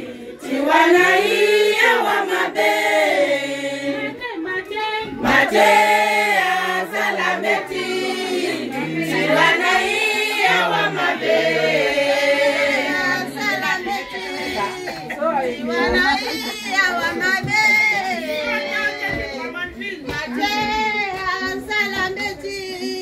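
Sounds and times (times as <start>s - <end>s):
women's choir singing: 0.0s - 23.0s.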